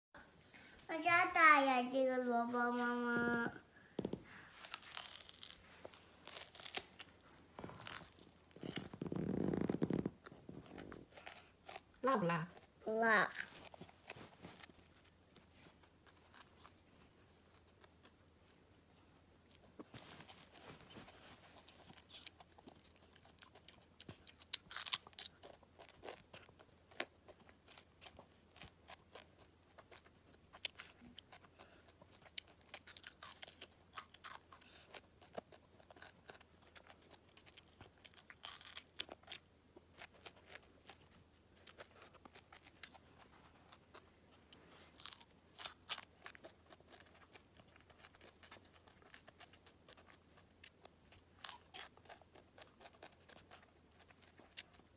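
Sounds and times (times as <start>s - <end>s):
child chewing radish crunches: 2.6s - 54.9s.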